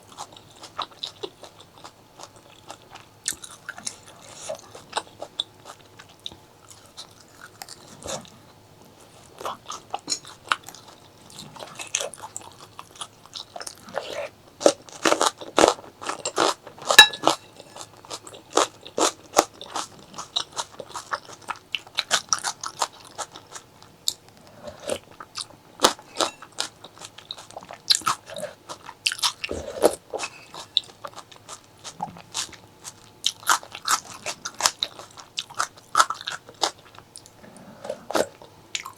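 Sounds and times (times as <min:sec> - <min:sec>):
person chewing crunchy food: 0:00.0 - 0:08.3, 0:09.0 - 0:38.9.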